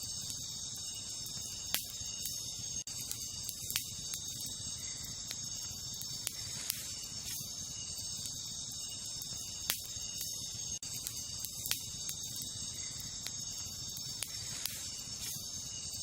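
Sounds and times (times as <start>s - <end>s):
campfire crackling and popping: 0.0s - 16.0s
crickets chirping: 0.0s - 16.0s
low rumble of fire: 0.0s - 16.0s.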